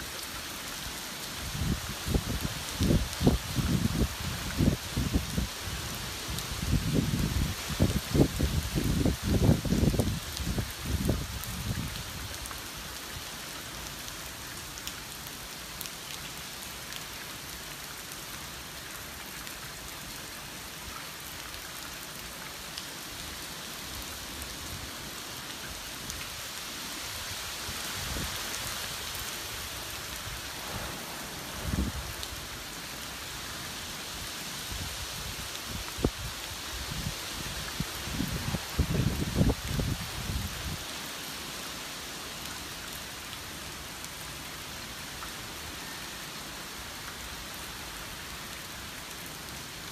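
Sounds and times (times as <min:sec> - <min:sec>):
heavy rain hiss: 0:00.0 - 0:49.9.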